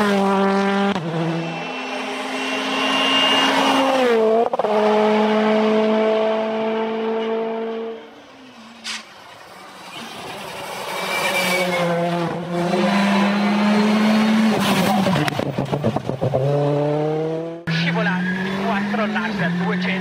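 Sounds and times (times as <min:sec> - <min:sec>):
rally car engine at full throttle: 0:00.0 - 0:20.0.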